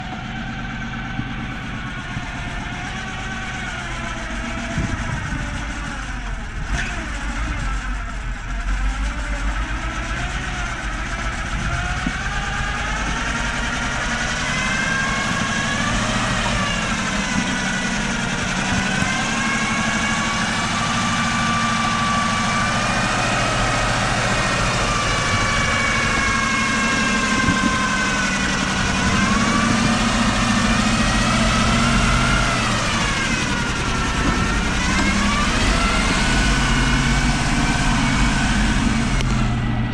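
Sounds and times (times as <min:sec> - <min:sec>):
truck engine at low revs: 0:00.0 - 0:39.9.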